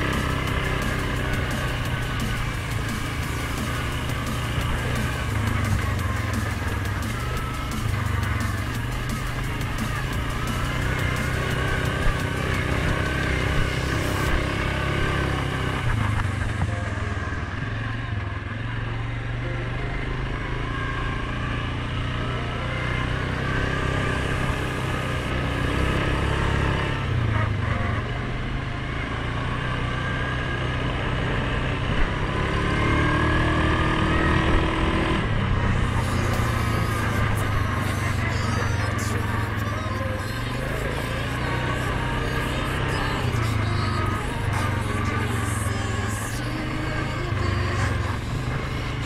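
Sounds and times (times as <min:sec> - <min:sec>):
atv engine running: 0:00.0 - 0:49.0.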